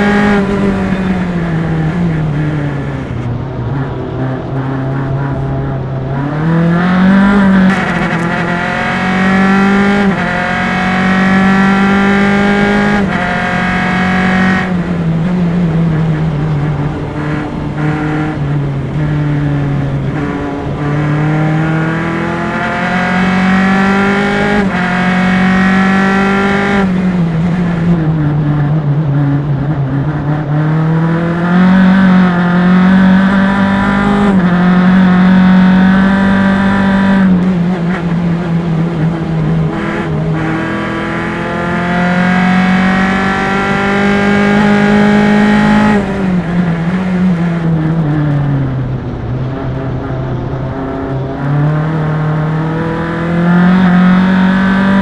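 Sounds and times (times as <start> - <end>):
race car engine with upshifts: 0.0 - 55.0.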